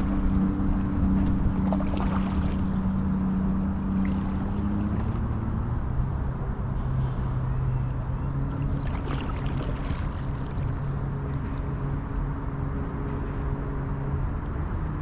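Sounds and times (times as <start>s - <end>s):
low engine drone: 0.0s - 15.0s
water trickling and splashing: 0.0s - 15.0s.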